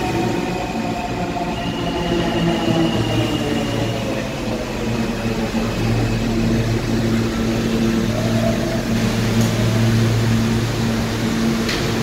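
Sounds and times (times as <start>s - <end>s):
subway train equipment humming: 0.0s - 12.0s.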